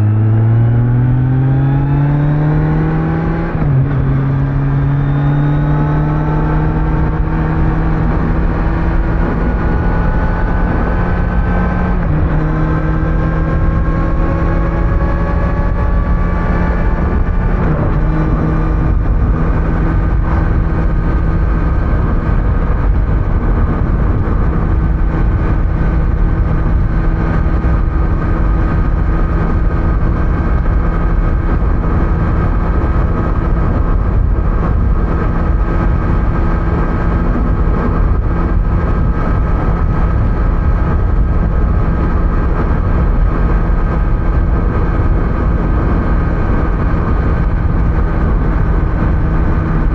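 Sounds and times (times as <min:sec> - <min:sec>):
motorcycle engine cruising: 0:00.0 - 0:49.9
road noise: 0:00.0 - 0:49.9
wind noise: 0:00.0 - 0:49.9.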